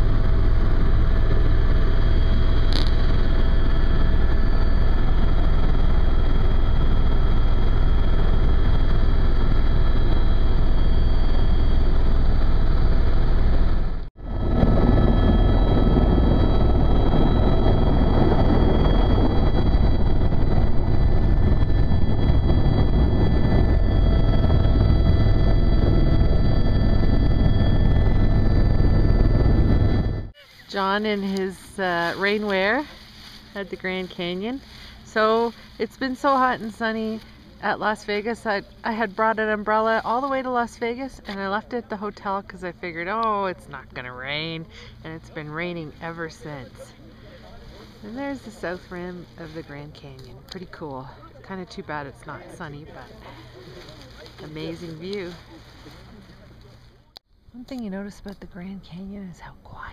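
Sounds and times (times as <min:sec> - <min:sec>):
helicopter engine and rotor: 0:00.0 - 0:42.4, 0:43.1 - 0:55.6
high whine: 0:00.0 - 0:57.2.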